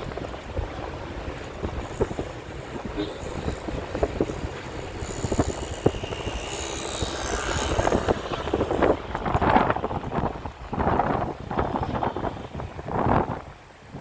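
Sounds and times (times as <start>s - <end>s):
vehicle road and wind noise: 0.0s - 14.0s.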